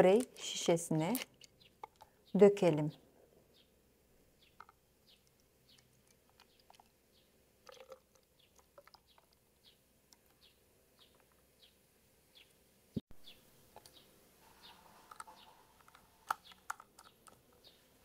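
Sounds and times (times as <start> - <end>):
faint bird chirping: 0.4 - 12.6, 13.2 - 18.0.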